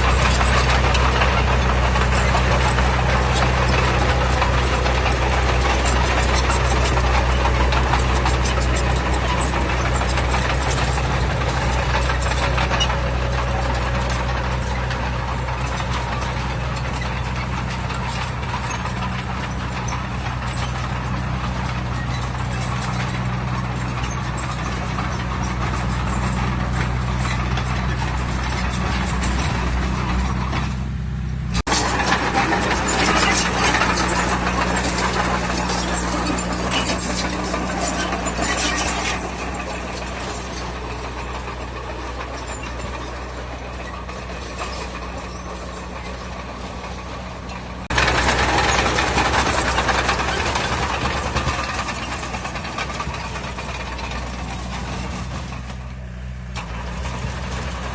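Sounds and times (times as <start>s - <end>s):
rattling clattery noise: 0.0s - 30.8s, 31.6s - 55.8s
heavy diesel engine running: 0.0s - 57.9s.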